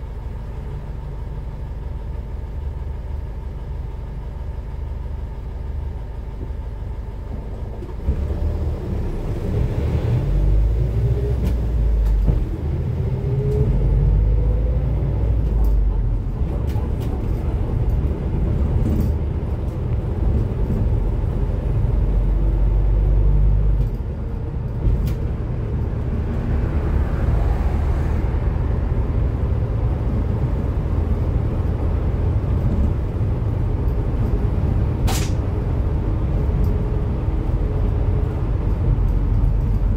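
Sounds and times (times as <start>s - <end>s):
bus diesel engine revving: 7.9s - 39.9s.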